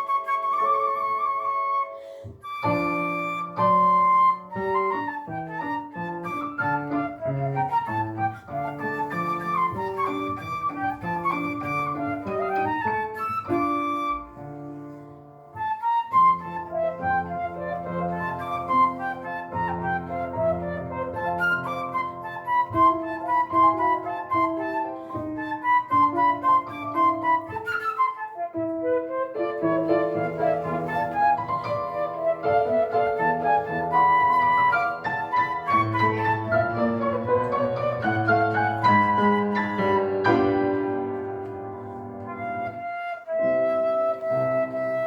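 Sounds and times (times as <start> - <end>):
flute melody: 0.0 - 45.0
piano accompaniment: 0.0 - 45.0.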